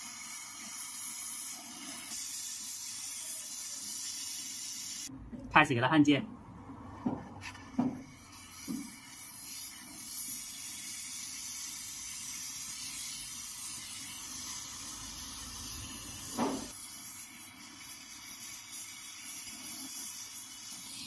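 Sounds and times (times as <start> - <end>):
torch flame hissing: 0.0 - 5.1, 7.4 - 21.0.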